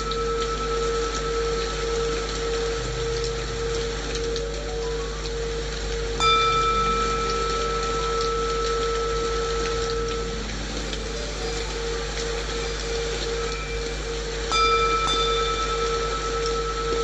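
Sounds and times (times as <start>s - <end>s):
rain white noise: 0.0s - 17.0s
singing bowl ringing: 0.0s - 17.0s.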